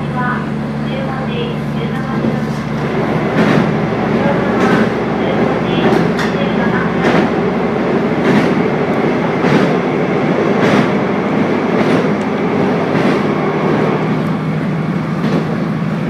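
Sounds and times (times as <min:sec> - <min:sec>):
railcar engine drone: 0:00.0 - 0:16.0.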